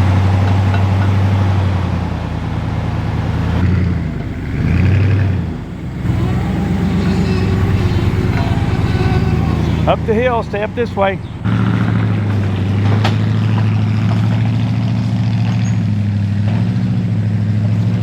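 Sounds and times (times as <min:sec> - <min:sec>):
vehicle engine running at low speed: 0:00.0 - 0:18.0.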